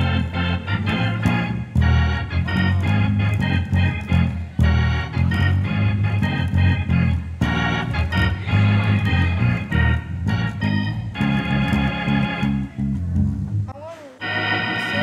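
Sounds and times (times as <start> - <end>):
gospel organ chords: 0.0 - 15.0.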